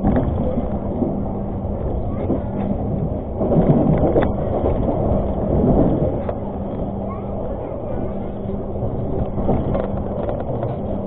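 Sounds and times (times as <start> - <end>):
passenger train running on track: 0.0 - 11.0.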